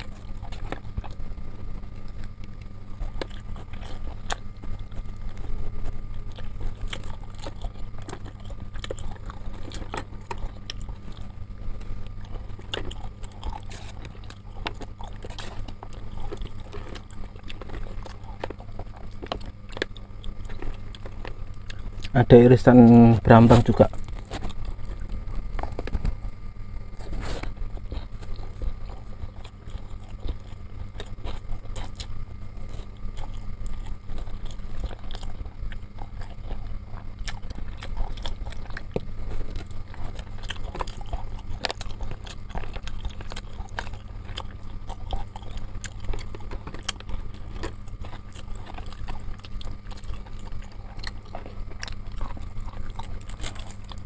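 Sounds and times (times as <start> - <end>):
close-up chewing: 0.0 - 54.0
steady low hum: 0.0 - 54.0.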